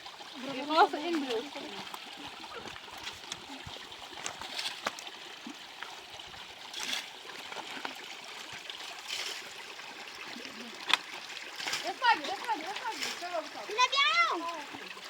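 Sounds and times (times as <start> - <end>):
water splashes: 0.0 - 15.0
water trickling: 0.0 - 15.0.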